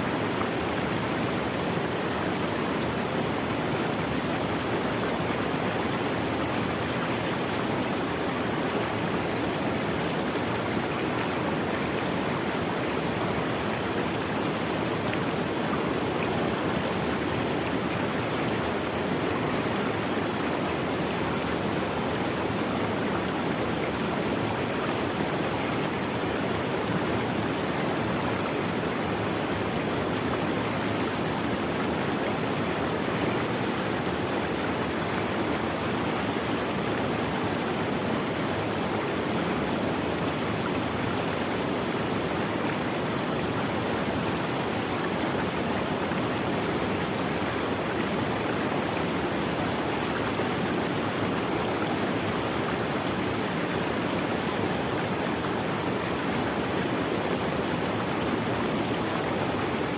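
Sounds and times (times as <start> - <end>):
stream flowing: 0.0 - 59.9.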